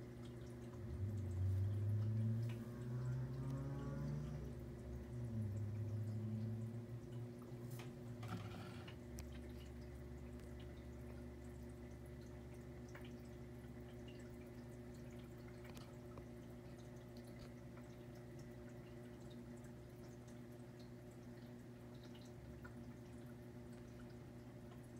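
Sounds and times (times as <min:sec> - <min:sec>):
aquarium filter motor hum: 0:00.0 - 0:24.9
water trickling and dripping: 0:00.0 - 0:24.9.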